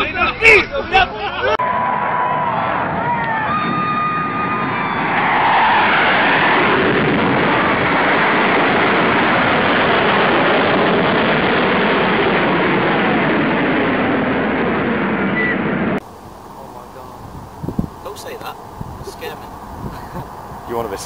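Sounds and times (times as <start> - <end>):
fighter jet low pass: 1.6 - 21.0.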